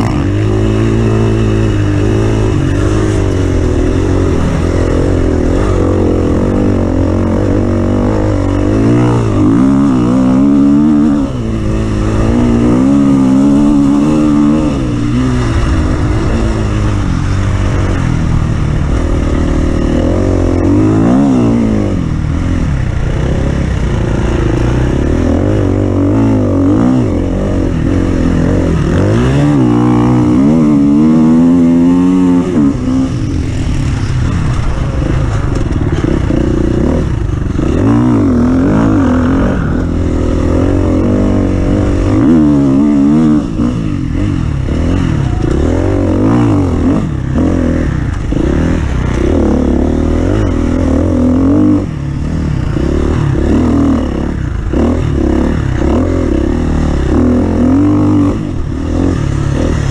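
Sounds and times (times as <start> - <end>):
offroad vehicle engine revving: 0.0 - 59.9.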